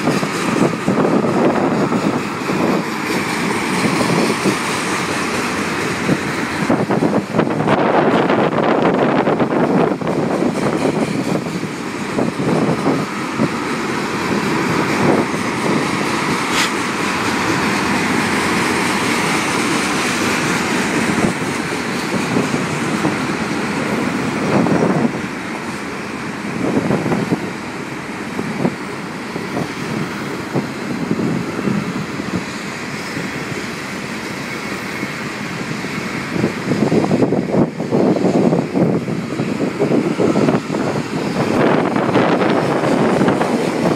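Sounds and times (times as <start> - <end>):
freight train wheels rumbling on rails: 0.0 - 43.9
train wheels clicking and clattering: 0.0 - 43.9.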